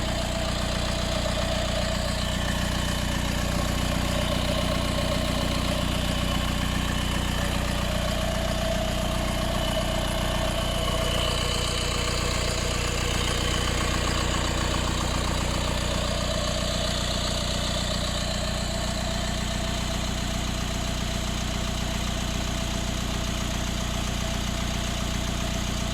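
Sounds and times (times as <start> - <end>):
diesel engine idling: 0.0 - 25.9
engine rattle: 0.0 - 25.9.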